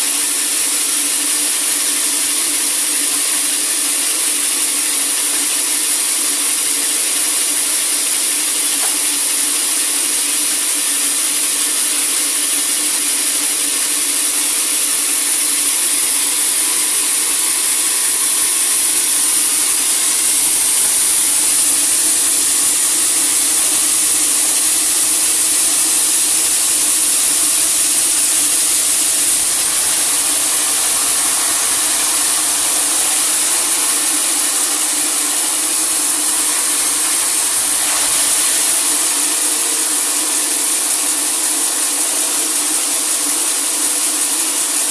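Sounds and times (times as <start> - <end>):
sawmill saw cutting log: 0.0 - 44.9.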